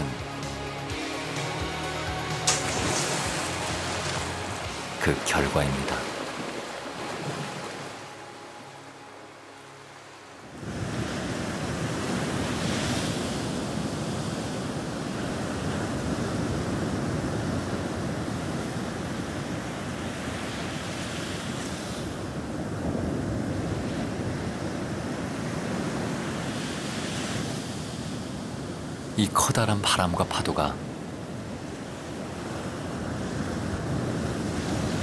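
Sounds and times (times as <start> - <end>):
waves crashing on rocks: 2.2 - 9.0, 10.5 - 35.0
strong wind: 2.8 - 29.2, 30.8 - 35.0.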